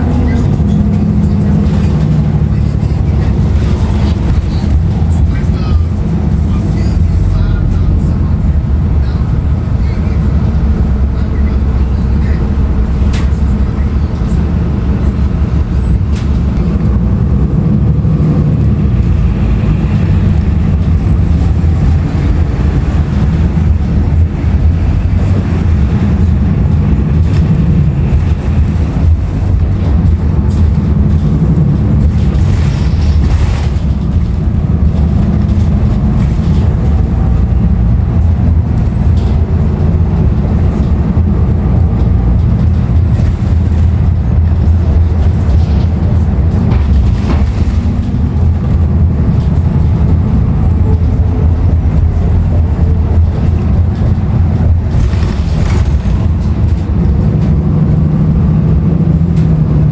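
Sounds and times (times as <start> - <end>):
bus interior rumble: 0.0 - 59.9.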